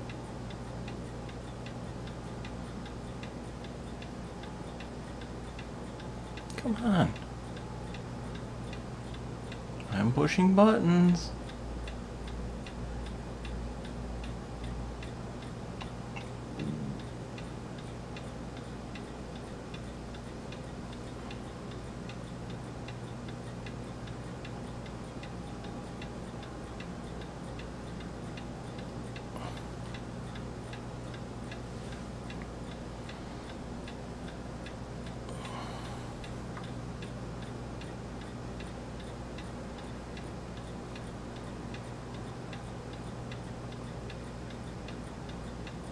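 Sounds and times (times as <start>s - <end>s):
constant low hum: 0.0s - 45.9s.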